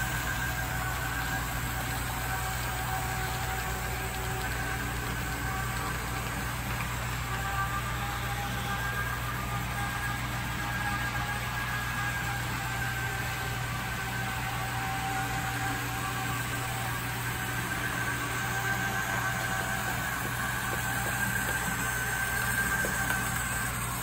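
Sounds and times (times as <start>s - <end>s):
model locomotive motor whirring: 0.0s - 24.0s.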